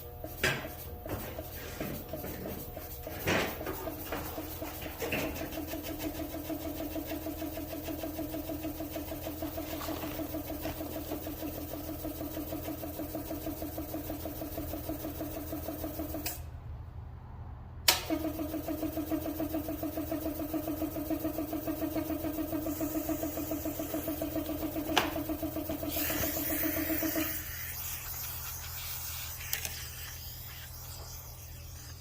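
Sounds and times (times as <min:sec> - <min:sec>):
air compressor humming: 0:00.0 - 0:16.4, 0:17.9 - 0:32.0.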